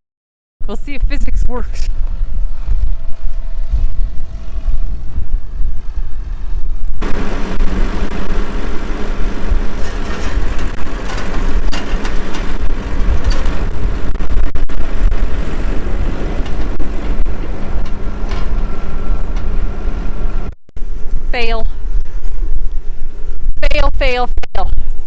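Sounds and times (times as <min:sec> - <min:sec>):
wind buffeting microphone: 0:00.6 - 0:25.0
tractor engine running: 0:01.9 - 0:23.4.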